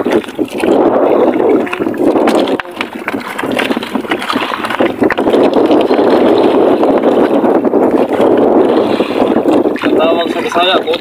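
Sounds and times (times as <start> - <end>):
water slapping against boat hull: 0.0 - 11.0
wind noise on microphone: 0.0 - 11.0.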